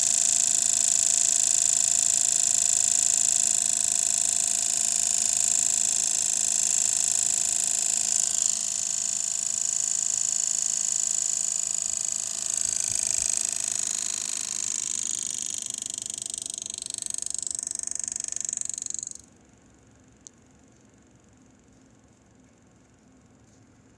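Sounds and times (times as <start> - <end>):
cooling fan high-pitched whine: 0.0 - 23.9.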